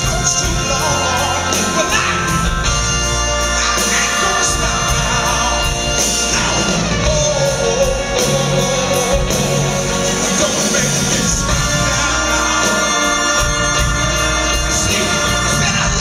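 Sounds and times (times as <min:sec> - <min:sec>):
bass: 0:00.0 - 0:16.0
drums: 0:00.0 - 0:16.0
guitar: 0:00.0 - 0:16.0
man singing and shouting: 0:00.0 - 0:16.0.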